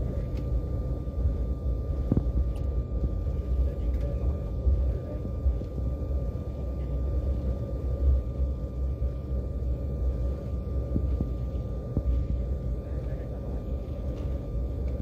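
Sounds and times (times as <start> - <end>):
jet engines rumbling: 0.0 - 15.0
thin steady whine: 0.0 - 15.0.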